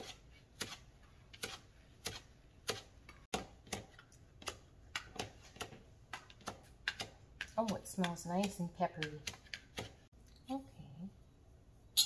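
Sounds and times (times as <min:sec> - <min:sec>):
knife chopping on cutting board: 0:00.0 - 0:10.1.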